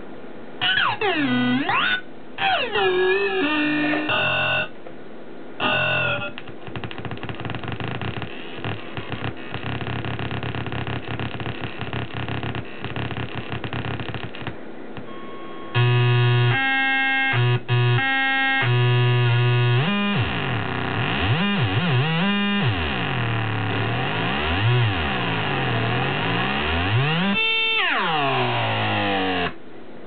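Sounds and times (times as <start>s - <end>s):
buzzy electronic tones: 0.6s - 4.8s, 5.6s - 29.6s.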